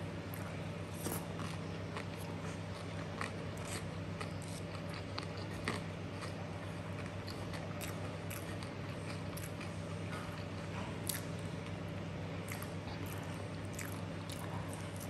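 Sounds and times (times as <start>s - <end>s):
chewing mouth sounds: 0.3s - 15.0s.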